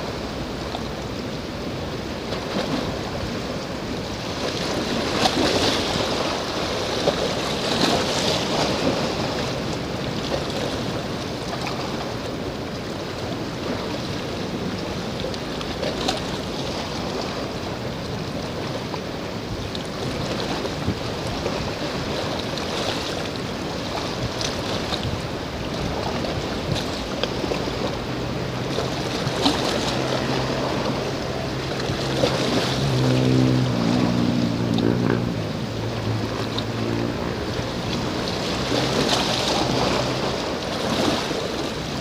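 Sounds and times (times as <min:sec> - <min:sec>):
low engine hum: 0:00.0 - 0:42.0
waves washing at shoreline: 0:00.0 - 0:42.0
wind: 0:00.0 - 0:42.0.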